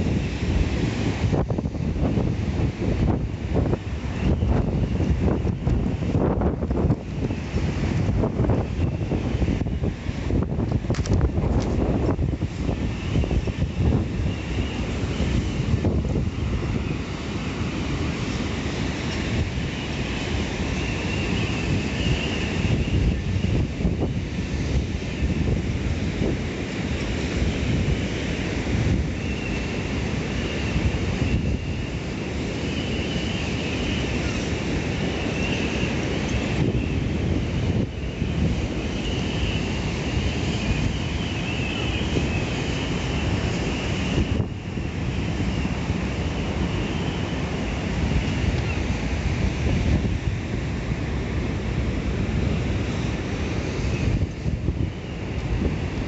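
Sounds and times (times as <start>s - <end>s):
rough sea washing: 0.0s - 56.0s
wind buffeting microphone: 0.0s - 56.0s.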